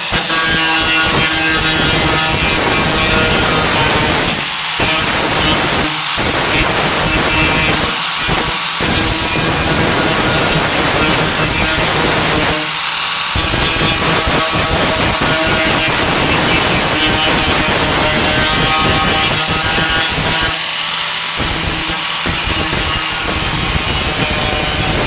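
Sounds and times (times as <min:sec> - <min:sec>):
angle grinder cutting metal: 0:00.0 - 0:25.0.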